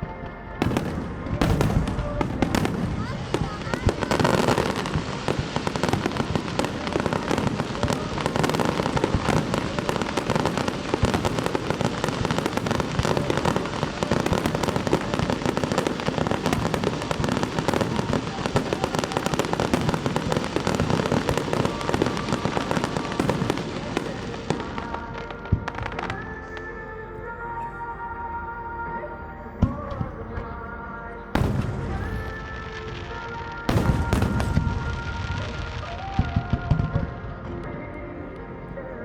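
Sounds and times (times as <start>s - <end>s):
fireworks bursting and crackling: 0.6s - 26.6s, 31.4s - 37.6s.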